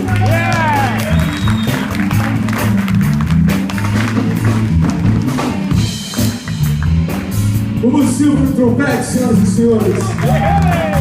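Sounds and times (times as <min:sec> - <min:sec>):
bass line: 0:00.0 - 0:11.0
live band playing: 0:00.0 - 0:11.0
drum kit hits: 0:01.6 - 0:11.0.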